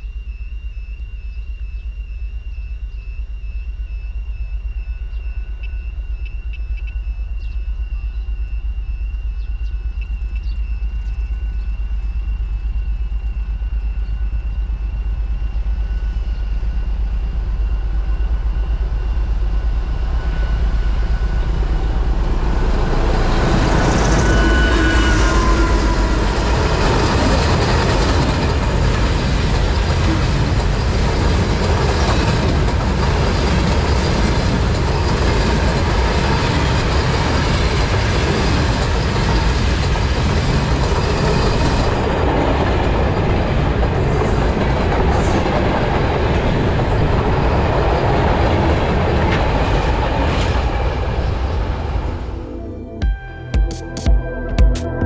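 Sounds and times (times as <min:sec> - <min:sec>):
diesel train rumbling past: 0:00.0 - 0:53.3.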